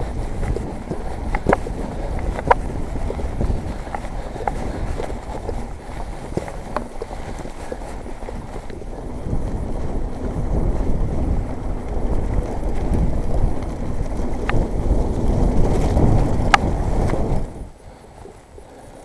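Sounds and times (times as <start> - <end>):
bike rattling: 0.0 - 19.0
bike tyres rumbling on mud: 0.0 - 19.0
wind buffeting microphone: 0.0 - 19.0.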